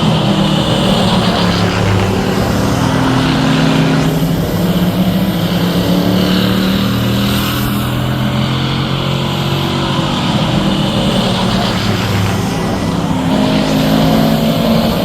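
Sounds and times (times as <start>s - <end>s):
drone propellers: 0.0s - 15.0s
racing engines: 0.0s - 15.0s
rushing noise: 0.0s - 15.0s.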